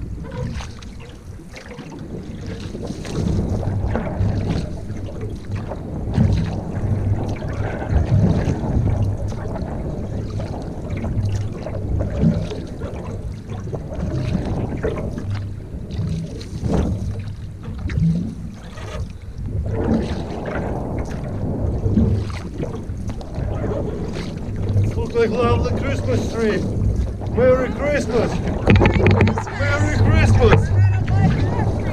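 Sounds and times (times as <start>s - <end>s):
knocks and splashes: 0.0s - 31.9s
wind rumbling on microphone: 0.0s - 31.9s.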